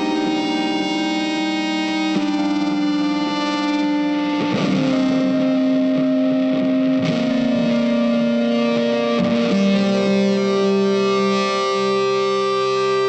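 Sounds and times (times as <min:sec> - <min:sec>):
instrumental music with long held notes: 0:00.0 - 0:13.0.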